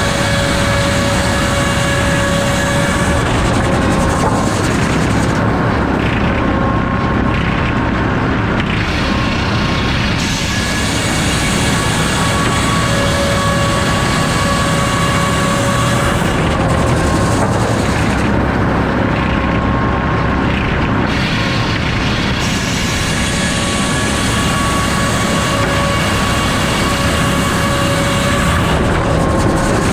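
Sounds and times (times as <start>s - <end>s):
sawmill machine noise: 0.0s - 29.9s.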